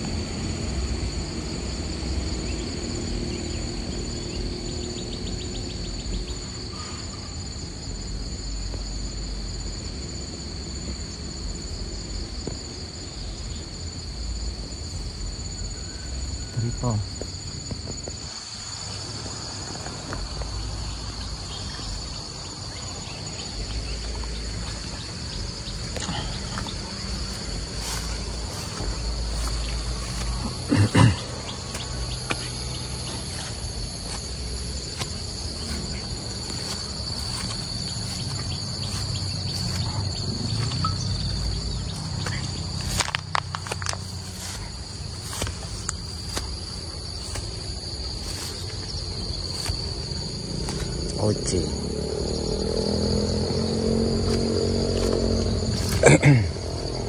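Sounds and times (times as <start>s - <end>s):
insects chirping in chorus: 0.0s - 57.0s.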